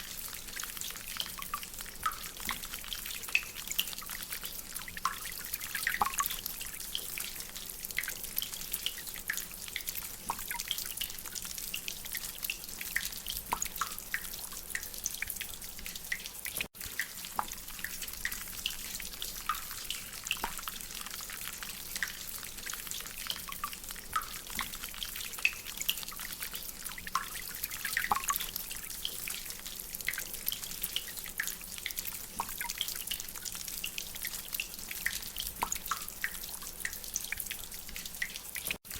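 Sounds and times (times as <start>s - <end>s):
water dripping from drainpipe: 0.0s - 38.9s.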